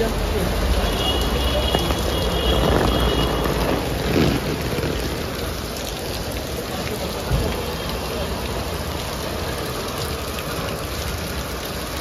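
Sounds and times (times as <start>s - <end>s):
rain on wet pavement: 0.0s - 12.0s
road traffic: 0.0s - 12.0s.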